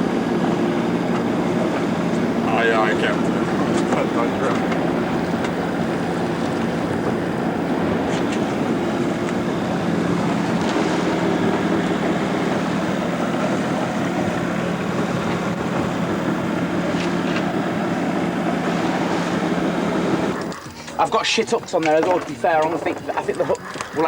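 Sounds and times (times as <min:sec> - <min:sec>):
wind on microphone: 0:00.0 - 0:20.7
boat motor humming: 0:00.0 - 0:24.0
water rushing past hull: 0:00.0 - 0:24.0.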